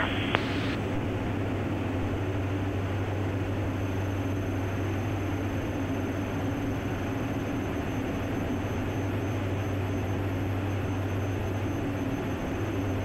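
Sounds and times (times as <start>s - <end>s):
aircraft cabin engine drone: 0.0s - 13.0s.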